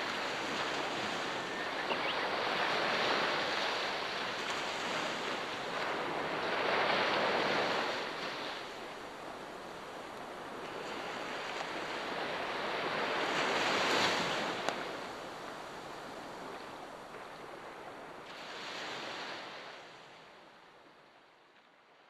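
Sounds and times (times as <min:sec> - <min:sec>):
sea waves washing onto shore: 0:00.0 - 0:20.4.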